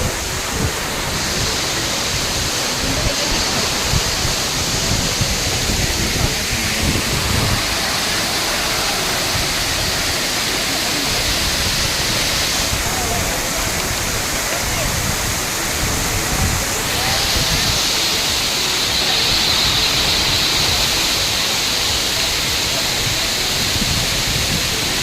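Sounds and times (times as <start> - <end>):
waterfall hiss: 0.0 - 25.0.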